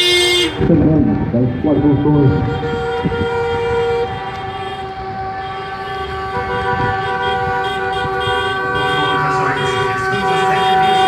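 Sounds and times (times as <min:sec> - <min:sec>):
car horns blaring: 0:00.0 - 0:11.0.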